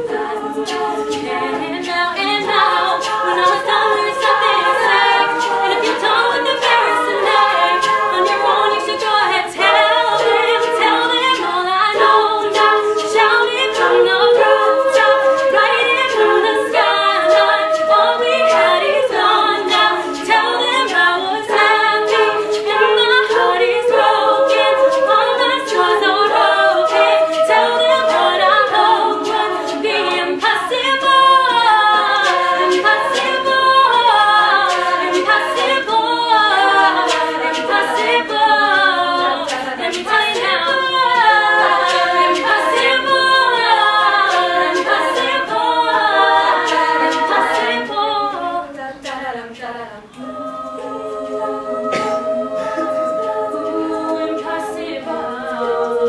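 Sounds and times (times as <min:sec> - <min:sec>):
women singing a cappella: 0:00.0 - 0:56.0.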